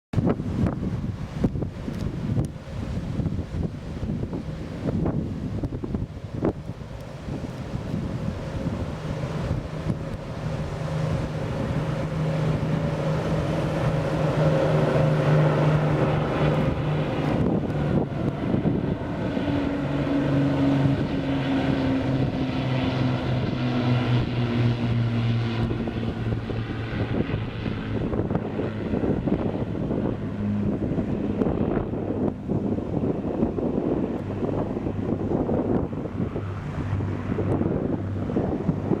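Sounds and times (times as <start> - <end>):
propeller aircraft engines droning: 0.1 - 39.0
wind buffeting microphone: 0.1 - 39.0.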